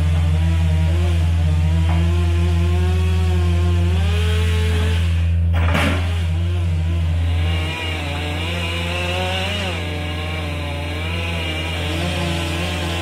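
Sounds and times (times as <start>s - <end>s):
backhoe engine humming: 0.0s - 13.0s
chainsaw running: 0.0s - 13.0s.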